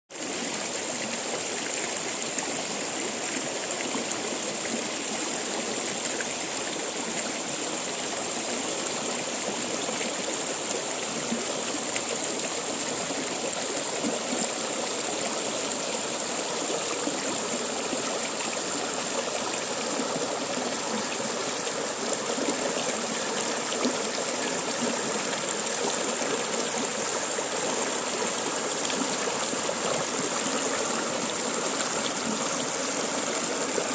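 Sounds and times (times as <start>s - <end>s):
river water rushing: 0.3s - 33.9s.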